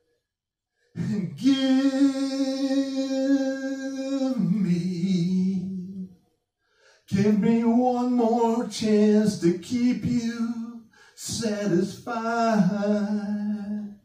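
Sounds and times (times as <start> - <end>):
man singing unaccompanied: 1.0 - 6.1, 7.1 - 14.0.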